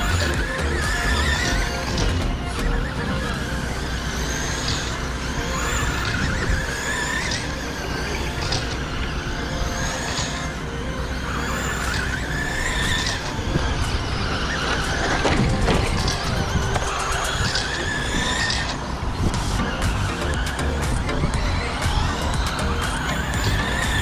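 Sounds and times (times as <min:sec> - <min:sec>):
rc truck motors whining: 0:00.0 - 0:24.0.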